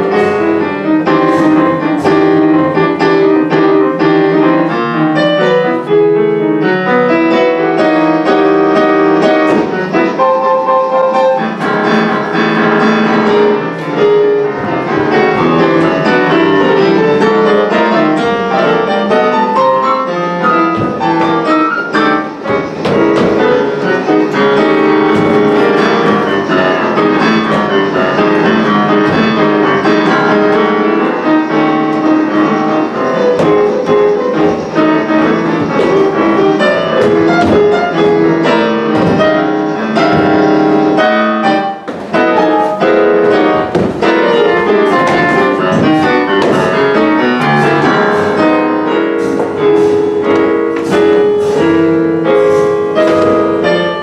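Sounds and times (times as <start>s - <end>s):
fast piano music: 0.0s - 54.0s.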